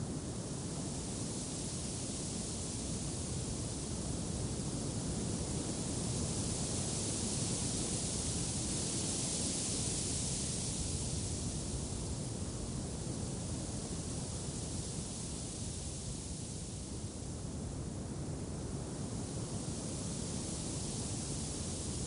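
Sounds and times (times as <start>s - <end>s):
steady wind noise: 0.0s - 22.0s.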